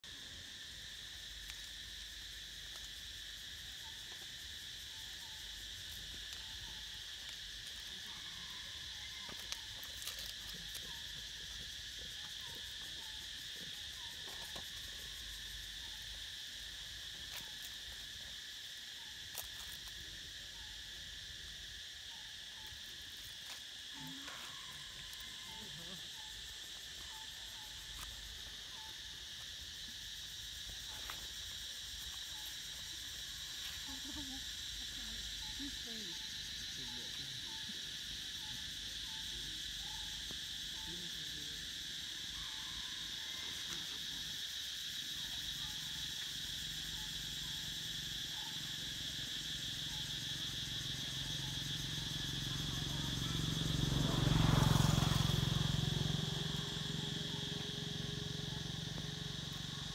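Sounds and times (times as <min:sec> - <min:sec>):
insect chorus droning: 0:00.0 - 0:59.9.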